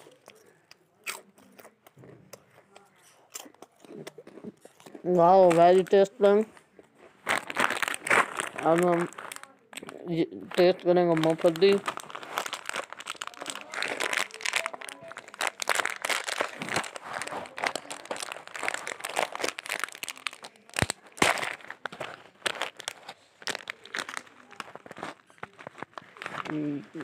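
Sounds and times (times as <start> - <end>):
plastic snack packet crinkling: 0.0 - 27.0.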